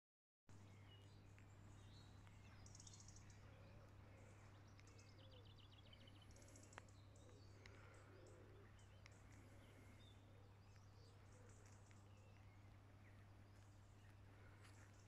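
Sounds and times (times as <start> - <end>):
birdsong trills and chirps: 0.5 - 15.0
low steady hum: 0.5 - 15.0.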